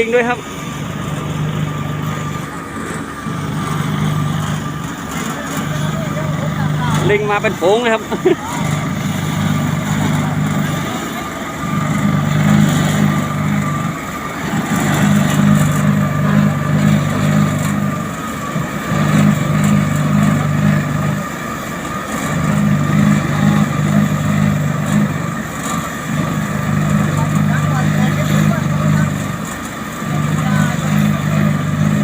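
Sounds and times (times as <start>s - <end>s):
low engine hum: 0.0s - 32.0s
steady mechanical whine: 0.0s - 32.0s.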